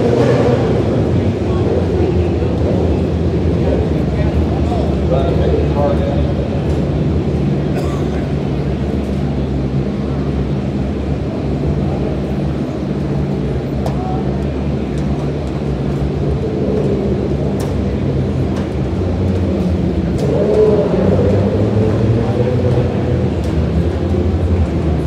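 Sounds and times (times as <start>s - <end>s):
vehicle engines idling low drone: 0.0s - 25.0s.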